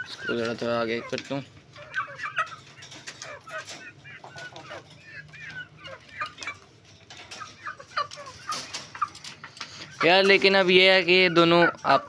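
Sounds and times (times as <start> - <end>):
birds chirping and clucking: 0.0 - 12.0.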